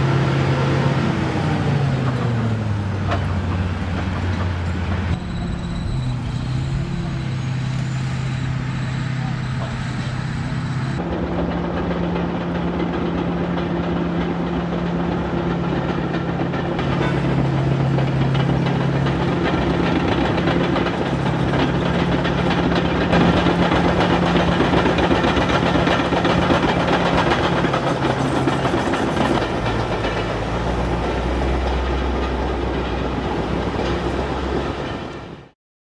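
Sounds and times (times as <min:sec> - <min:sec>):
diesel engine running hard: 0:00.0 - 0:35.6
steel tracks clanking: 0:00.9 - 0:35.5.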